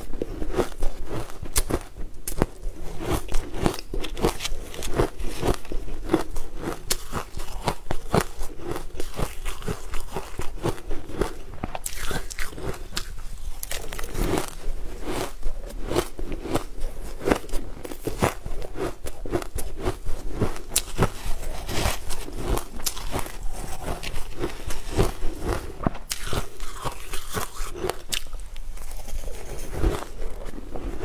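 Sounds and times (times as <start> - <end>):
icy food crunching: 0.0 - 31.0.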